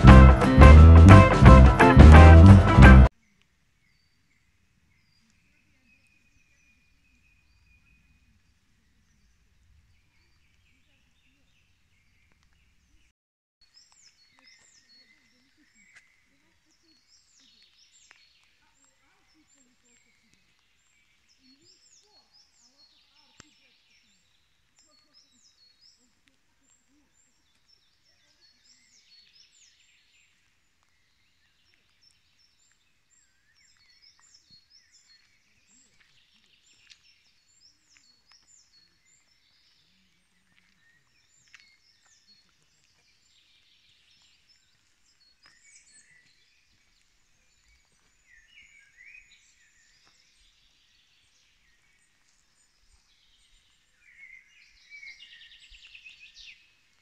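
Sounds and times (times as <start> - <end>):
songbirds singing: 3.2 - 57.0.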